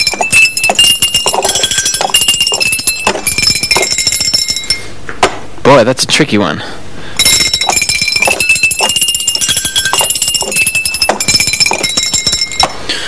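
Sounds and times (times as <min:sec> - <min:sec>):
cowbells rung rapidly: 0:00.0 - 0:04.9, 0:07.2 - 0:12.8.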